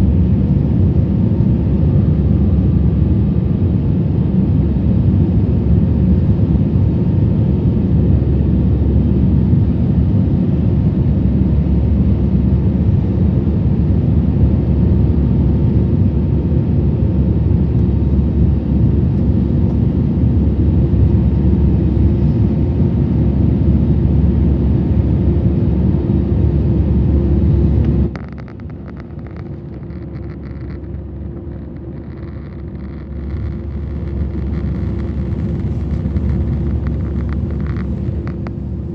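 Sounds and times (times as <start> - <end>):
jet airliner cabin roar: 0.0 - 38.9.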